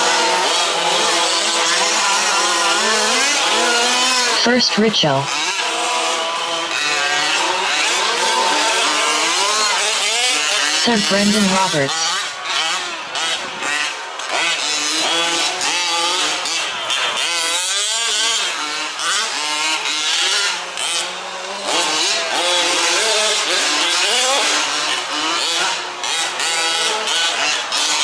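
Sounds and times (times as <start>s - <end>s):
small two-stroke engines racing: 0.0s - 28.0s.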